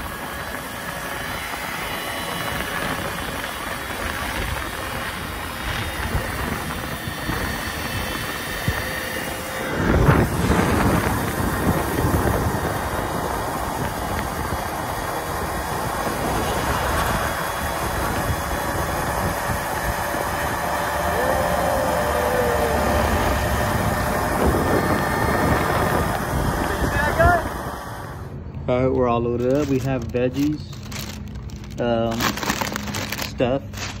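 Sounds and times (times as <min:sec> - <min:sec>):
tyre noise on asphalt: 0:00.0 - 0:28.3, 0:29.0 - 0:34.0
rushing wind: 0:00.0 - 0:34.0.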